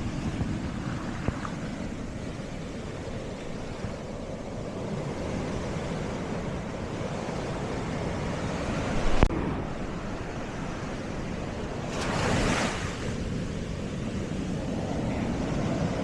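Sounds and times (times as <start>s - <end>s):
sea waves washing on shore: 0.0s - 16.0s
wind on microphone: 0.0s - 16.0s.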